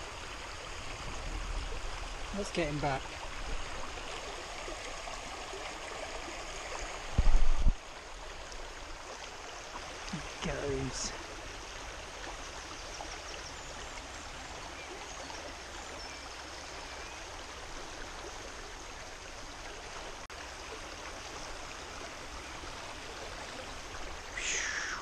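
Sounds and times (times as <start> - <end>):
stream flowing over shallows: 0.0 - 25.0.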